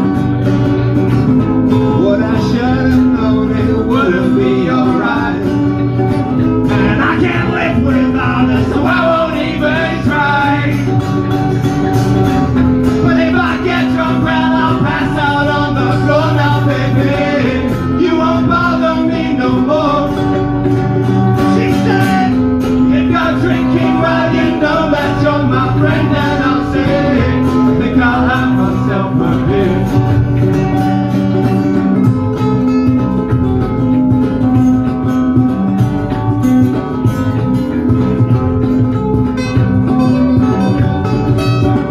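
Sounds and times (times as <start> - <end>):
electric bass line: 0.0 - 41.9
strummed acoustic guitars: 0.0 - 41.9.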